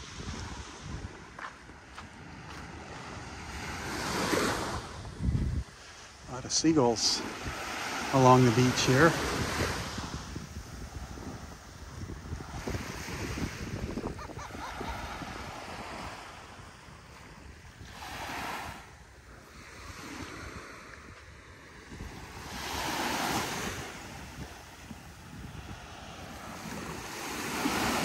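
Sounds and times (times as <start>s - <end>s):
surf washing onto beach: 0.0s - 28.0s
wind rumble on microphone: 0.0s - 28.0s.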